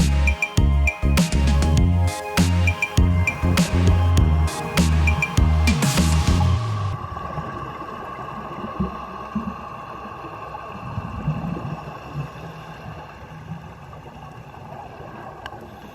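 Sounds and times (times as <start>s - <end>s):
wind: 0.0s - 15.9s.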